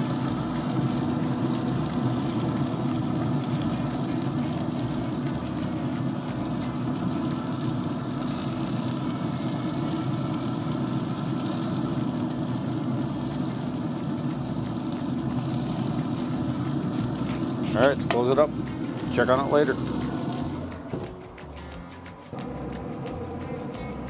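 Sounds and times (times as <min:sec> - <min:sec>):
grill fan humming: 0:00.0 - 0:24.0.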